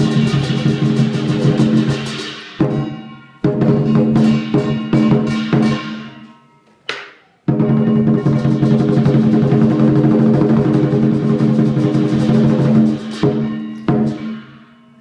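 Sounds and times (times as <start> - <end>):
cymbals crashing: 0.0 - 6.6, 7.5 - 15.0
gong: 0.0 - 6.7, 7.5 - 15.0
drum beats: 0.0 - 14.7.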